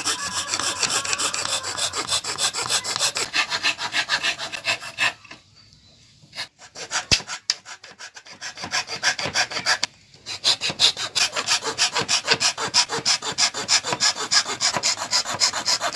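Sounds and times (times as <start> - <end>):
rasping strokes on wood: 0.0 - 5.2, 6.4 - 15.9.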